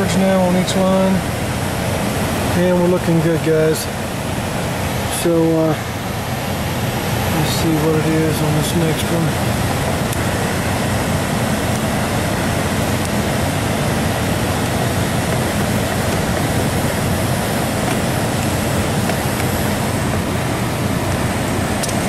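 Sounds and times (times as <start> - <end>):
blower rushing: 0.0 - 22.0.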